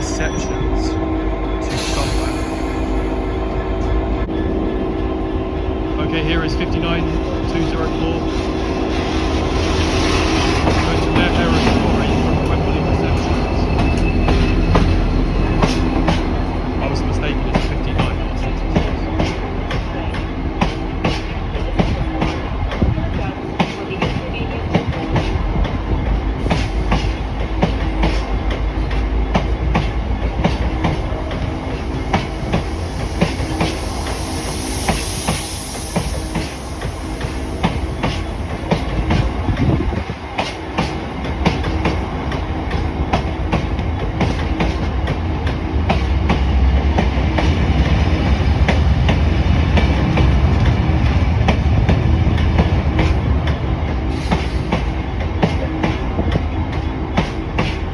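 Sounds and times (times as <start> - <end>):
train rumble: 0.0 - 57.9
train wheels clicking over rail joints: 6.4 - 57.9.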